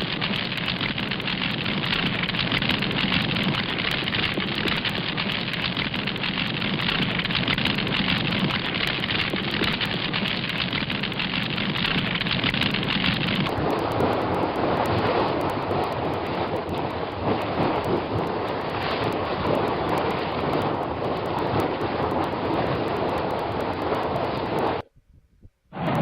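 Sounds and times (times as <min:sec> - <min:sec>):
dense crackling noise: 0:00.0 - 0:26.0
low hum: 0:00.0 - 0:26.0.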